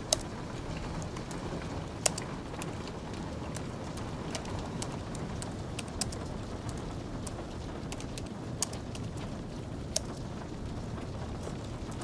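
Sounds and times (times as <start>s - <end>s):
light rain hiss: 0.0s - 12.0s.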